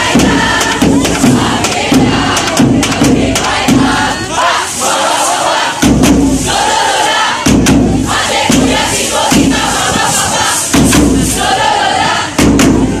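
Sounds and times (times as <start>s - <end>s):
crowd din: 0.0s - 13.0s.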